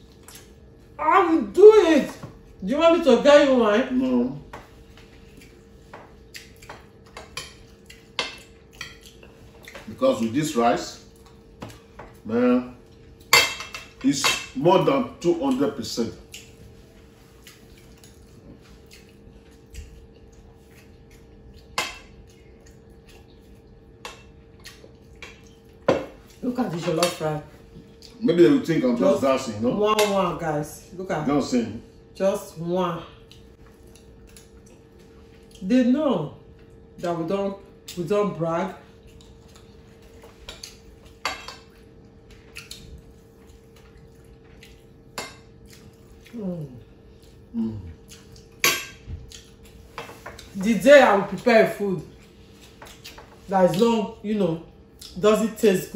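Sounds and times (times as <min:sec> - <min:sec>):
faint steady hum: 0:00.0 - 0:55.9.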